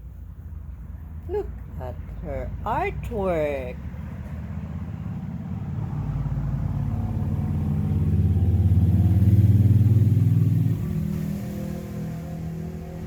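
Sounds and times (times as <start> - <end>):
vehicle engine approaching: 0.0 - 13.0.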